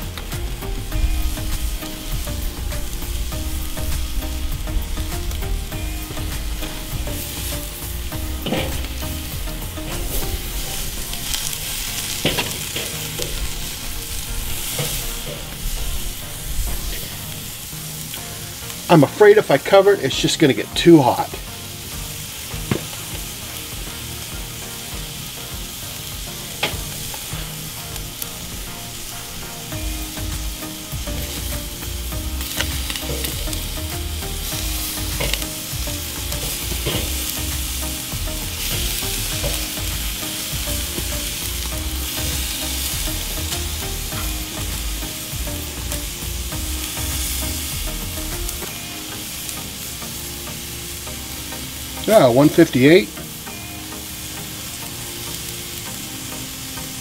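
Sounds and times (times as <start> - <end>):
chicken sizzling on grill: 0.0 - 57.0.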